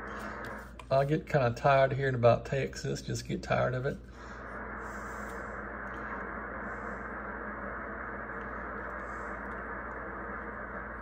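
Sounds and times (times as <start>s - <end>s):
low hum: 0.0s - 11.0s
radio receiver hiss: 0.0s - 11.0s.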